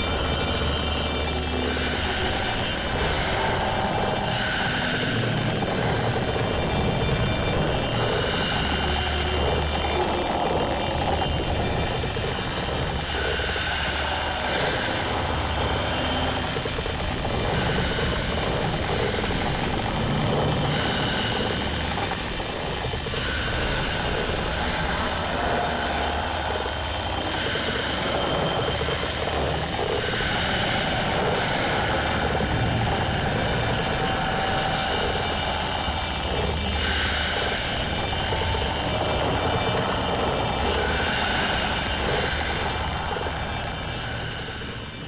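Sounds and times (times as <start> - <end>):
distorted noise drone: 0.0 - 45.0
low rumbling hum: 0.0 - 45.0.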